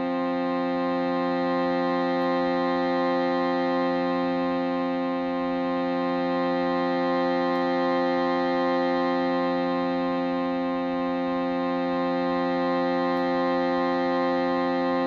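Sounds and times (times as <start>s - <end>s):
shruti box drone: 0.0s - 15.0s.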